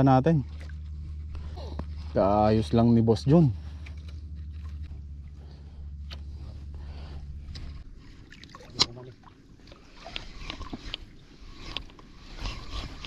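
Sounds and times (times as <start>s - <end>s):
water lapping against boat: 0.0s - 13.0s.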